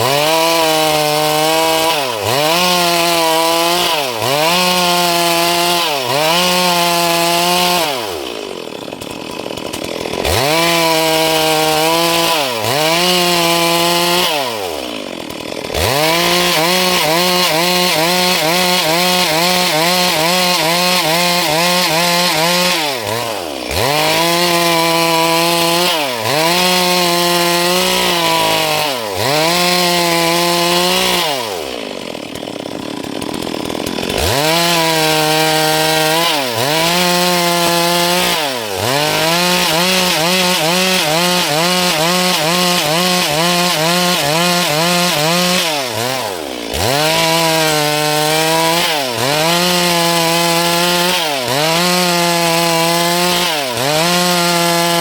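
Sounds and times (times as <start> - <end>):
chainsaw cutting dry wood: 0.0 - 55.0.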